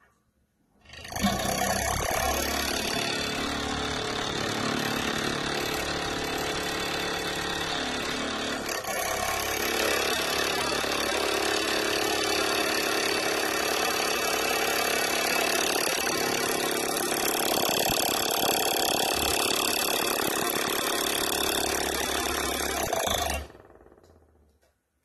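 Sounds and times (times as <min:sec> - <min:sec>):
unbalanced fan spinning: 0:01.9 - 0:24.8.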